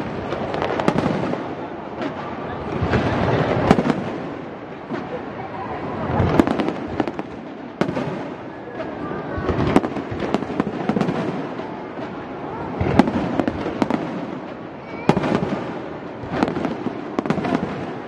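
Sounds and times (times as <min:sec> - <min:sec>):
fireworks booming: 0:00.0 - 0:18.0
fireworks crackling: 0:00.0 - 0:18.0.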